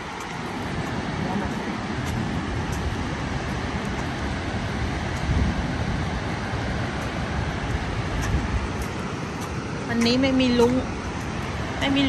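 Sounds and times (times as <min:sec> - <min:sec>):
waterfall roaring: 0:00.0 - 0:12.0
wind buffeting microphone: 0:00.0 - 0:12.0.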